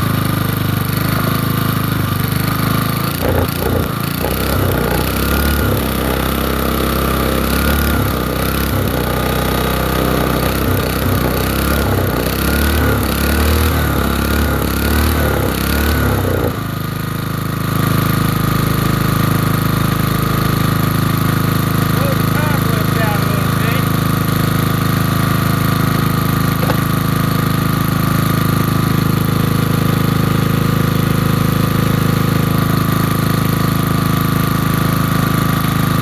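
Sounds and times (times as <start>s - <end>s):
generator engine running: 0.0s - 36.0s.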